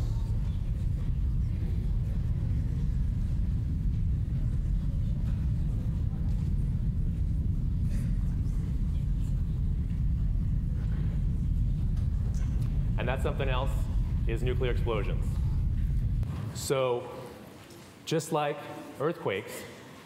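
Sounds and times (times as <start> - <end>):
low explosion rumble: 0.0 - 16.8.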